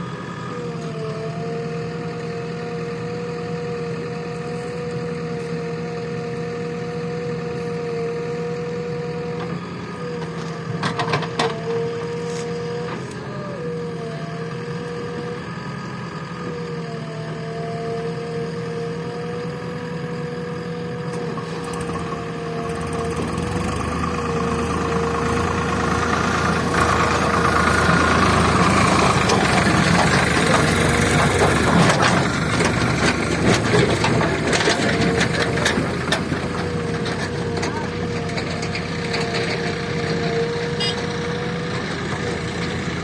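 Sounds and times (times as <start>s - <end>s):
diesel engine revving: 0.0s - 43.0s.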